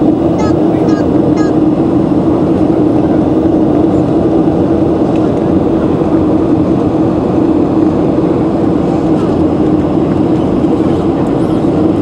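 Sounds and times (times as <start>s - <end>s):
constant low hum: 0.0s - 12.0s
jet engine and airflow rush: 0.0s - 12.0s.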